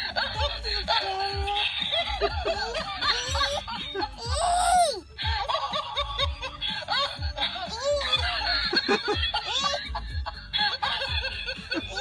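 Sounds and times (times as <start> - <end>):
young child laughing: 0.2 - 10.1, 10.8 - 12.0.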